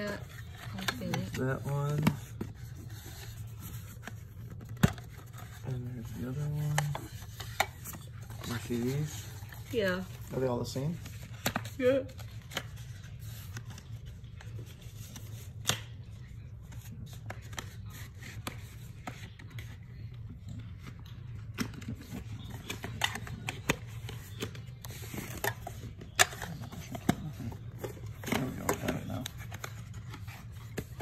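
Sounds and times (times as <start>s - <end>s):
hands handling small boxes: 0.0s - 31.0s.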